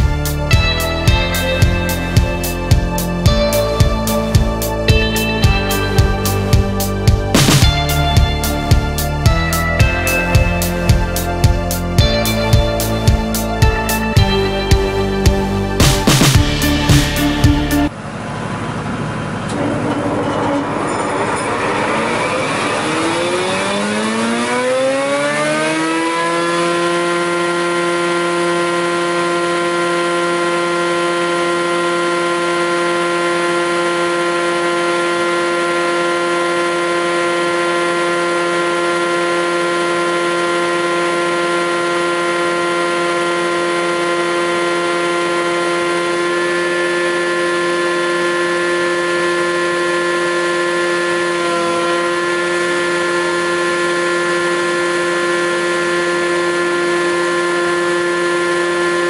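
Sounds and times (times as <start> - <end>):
planer machine whining: 0.0 - 59.0.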